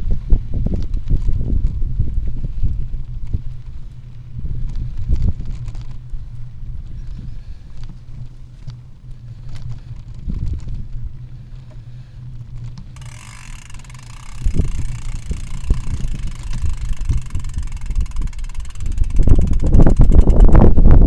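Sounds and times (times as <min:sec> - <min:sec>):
low steady hum: 0:00.0 - 0:21.0
wind noise on microphone: 0:00.0 - 0:21.0.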